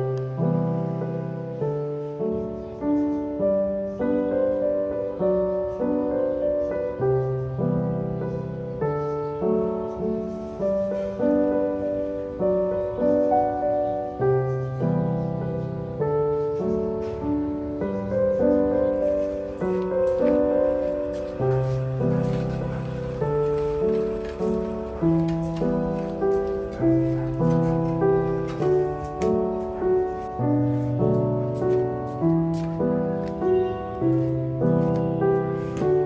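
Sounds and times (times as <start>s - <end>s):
solo piano music: 0.0s - 36.0s.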